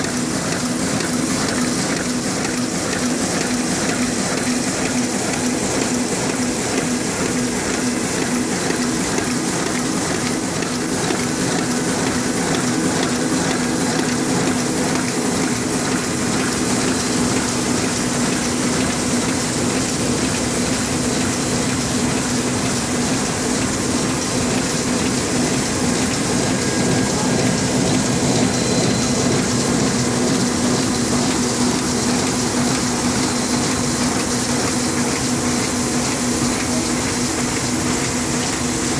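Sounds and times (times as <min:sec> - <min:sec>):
printing press whirring and hissing: 0:00.0 - 0:38.9.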